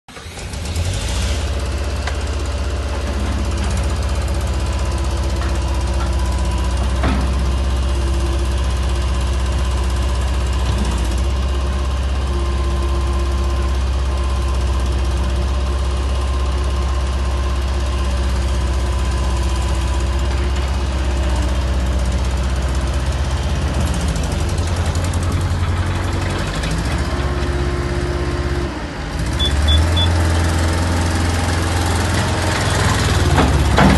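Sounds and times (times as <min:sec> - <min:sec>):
diesel engine humming: 0:00.1 - 0:33.9.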